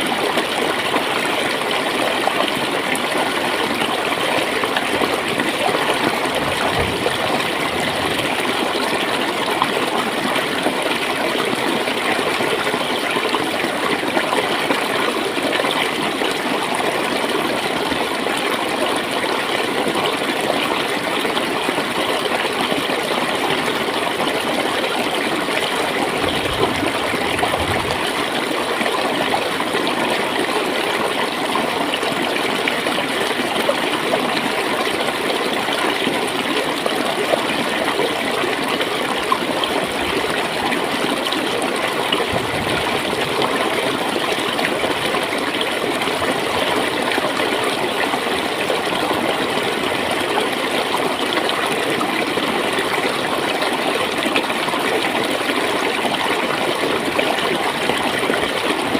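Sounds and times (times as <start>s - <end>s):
stream running and gurgling: 0.0s - 58.9s.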